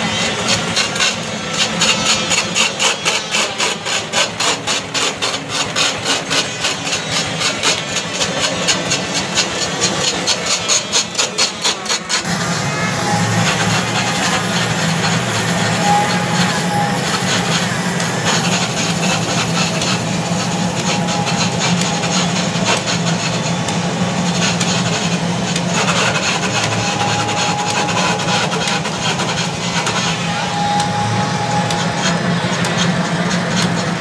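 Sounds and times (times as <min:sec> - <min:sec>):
lathe cutter scraping wood: 0:00.0 - 0:34.0
lathe humming: 0:00.0 - 0:34.0.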